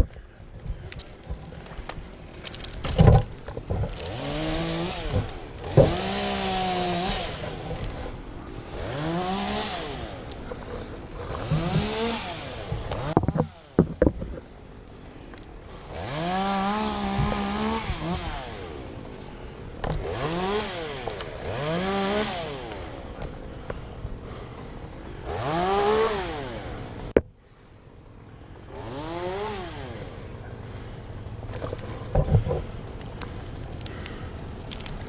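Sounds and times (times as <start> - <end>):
chainsaw engine revving: 2.4 - 14.3, 15.7 - 23.6, 24.3 - 27.2, 28.6 - 34.9.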